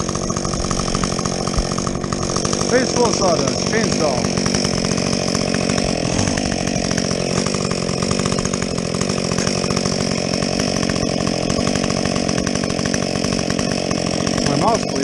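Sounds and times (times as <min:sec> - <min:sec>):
chainsaw cutting through log: 0:00.0 - 0:15.0.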